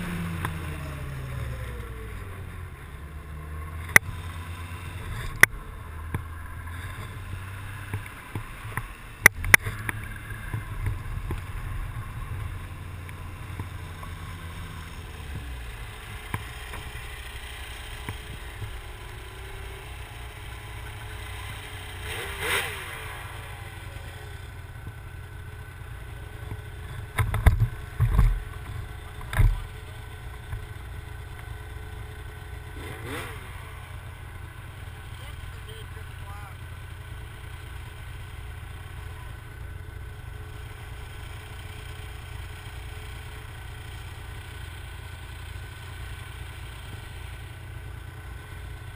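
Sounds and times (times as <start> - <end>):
snowmobile engine: 0.0 - 48.9.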